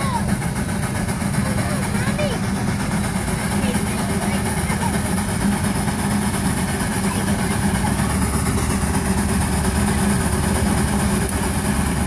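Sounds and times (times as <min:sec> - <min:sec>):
steam engine running: 0:00.0 - 0:12.0
steam hissing: 0:00.0 - 0:12.0.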